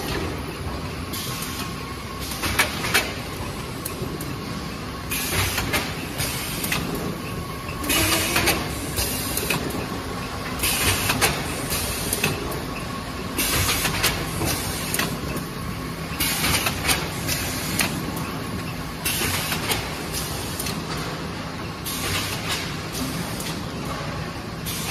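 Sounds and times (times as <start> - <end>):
folder gluer machine running: 0.0 - 20.9.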